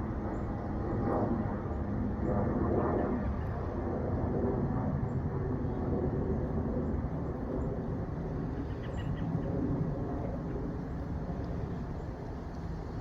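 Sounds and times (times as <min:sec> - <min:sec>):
airplane passing overhead: 0:00.0 - 0:13.0.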